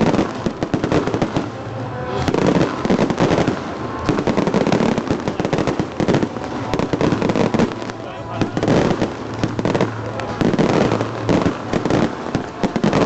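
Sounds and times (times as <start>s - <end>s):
fireworks crackling bangs: 0.0s - 13.0s.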